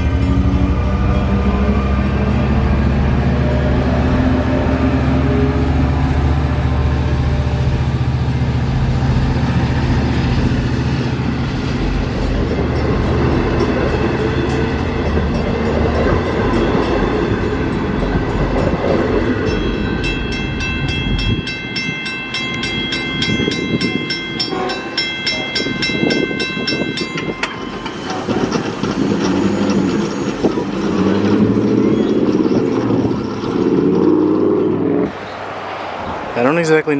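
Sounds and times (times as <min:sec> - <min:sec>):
railroad crossing bell ringing: 0:00.0 - 0:35.0
diesel train rumbling: 0:00.0 - 0:36.9.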